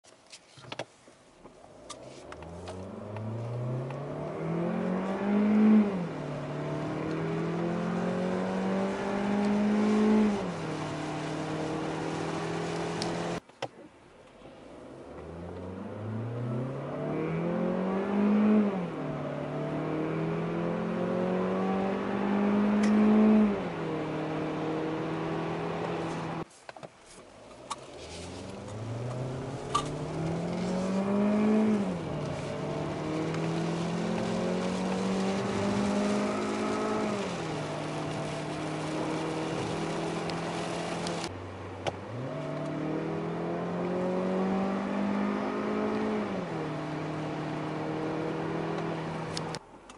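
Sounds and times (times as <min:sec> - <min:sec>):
car engine accelerating: 0:01.6 - 0:13.4, 0:14.4 - 0:26.4, 0:27.4 - 0:49.6.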